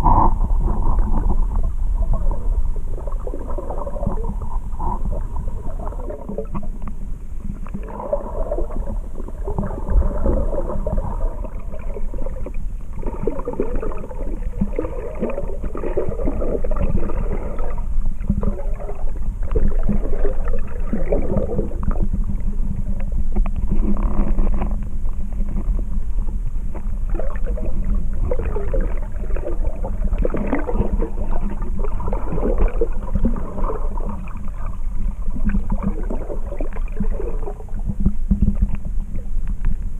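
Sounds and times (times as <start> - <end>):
steady low rumble: 0.0 - 39.9
underwater gurgling and sloshing: 0.0 - 39.9.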